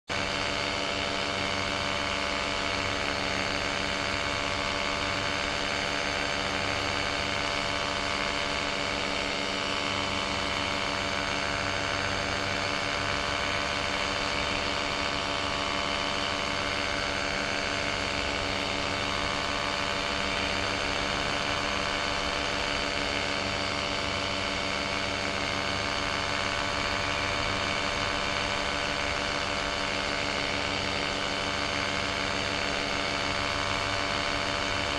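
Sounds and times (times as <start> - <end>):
paramotor engine droning: 0.1 - 34.9.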